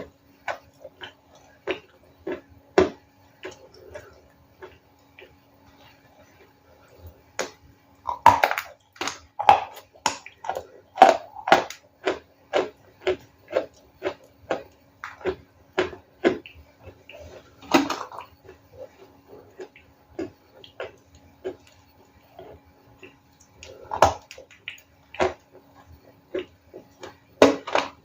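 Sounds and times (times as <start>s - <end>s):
ice being chewed: 0.0s - 28.0s.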